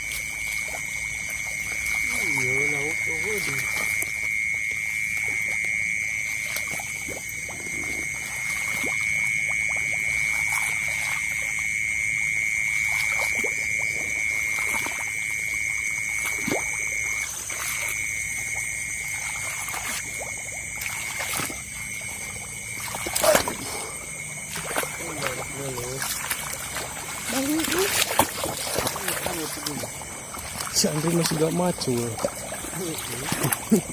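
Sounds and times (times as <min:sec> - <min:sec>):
frogs and insects trilling: 0:00.0 - 0:33.9
small water splashes: 0:00.0 - 0:33.9.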